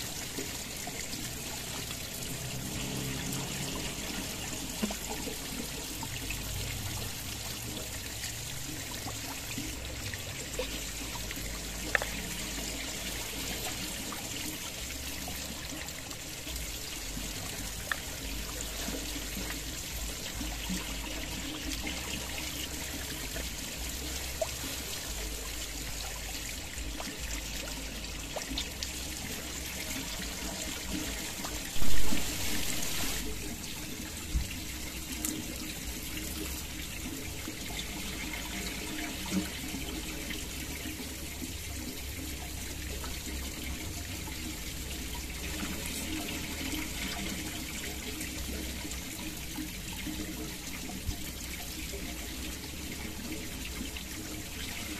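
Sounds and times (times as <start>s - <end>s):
water trickling over rocks: 0.0s - 54.9s.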